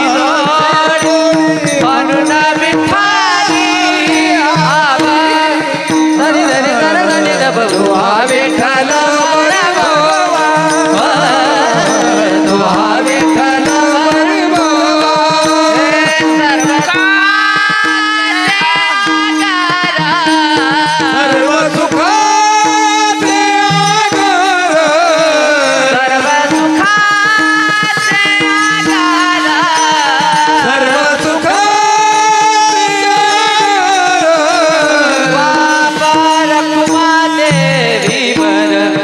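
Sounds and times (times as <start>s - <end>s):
man singing ornamented melody: 0.0s - 39.0s.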